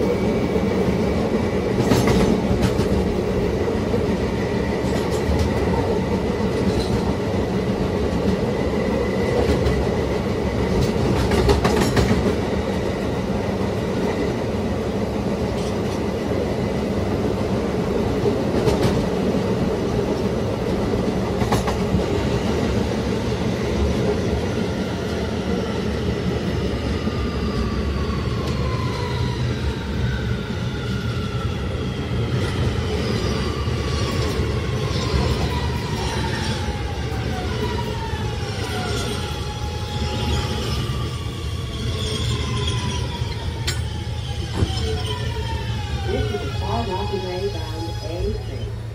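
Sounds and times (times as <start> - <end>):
wheels rumbling on rail: 0.0 - 48.9.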